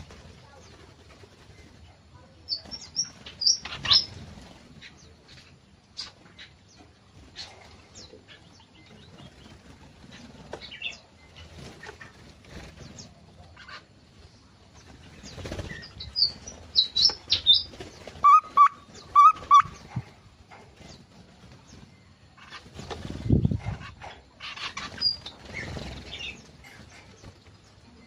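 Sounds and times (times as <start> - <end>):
bird wings flapping: 0.0 - 5.0, 8.8 - 23.9, 24.6 - 28.0
small birds chirping: 0.0 - 28.0.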